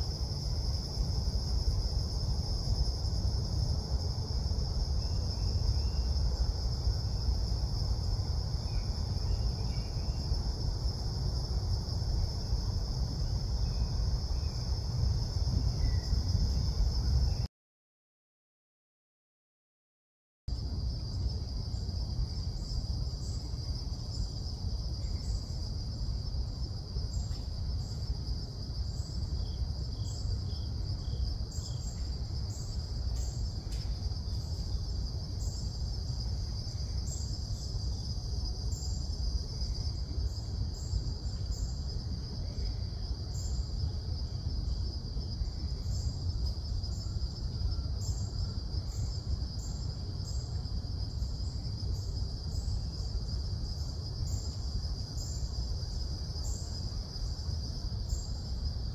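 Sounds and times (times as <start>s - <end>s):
high-pitched insect trill: 0.0s - 17.5s, 20.6s - 58.9s.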